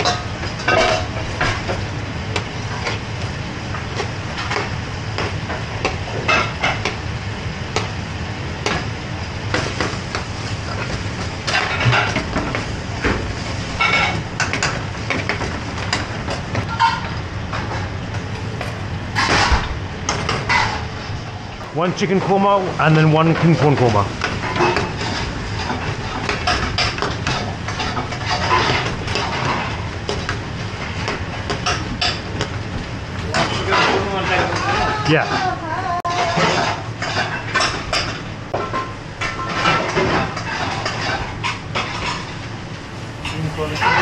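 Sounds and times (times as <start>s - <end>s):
kitchen roar: 0.0s - 44.0s.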